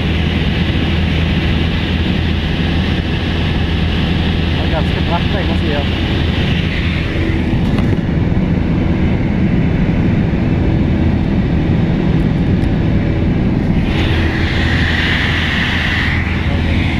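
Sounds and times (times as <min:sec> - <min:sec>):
aircraft engine and propeller droning: 0:00.0 - 0:16.9.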